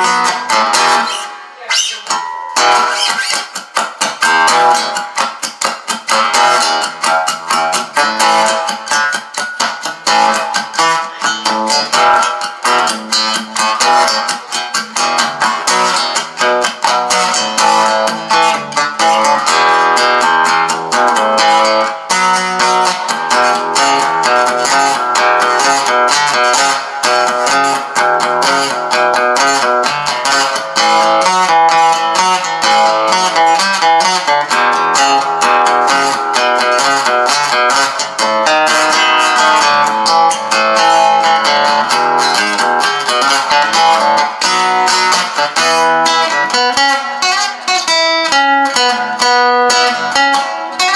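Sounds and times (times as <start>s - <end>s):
acoustic guitar strummed and picked: 0.0s - 50.9s.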